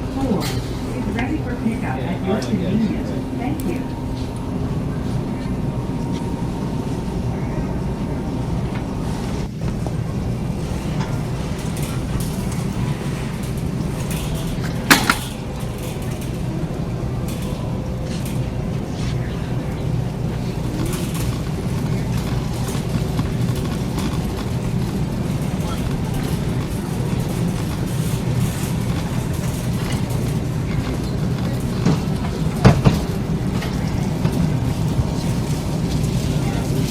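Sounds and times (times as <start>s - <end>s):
store hum and rumble: 0.0s - 36.9s.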